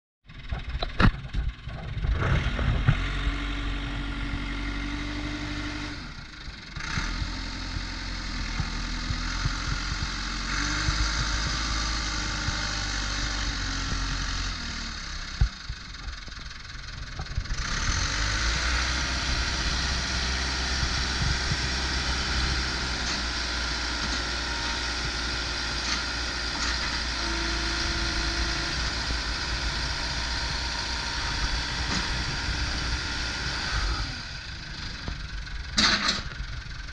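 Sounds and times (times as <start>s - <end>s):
diesel engine running: 0.3s - 36.9s.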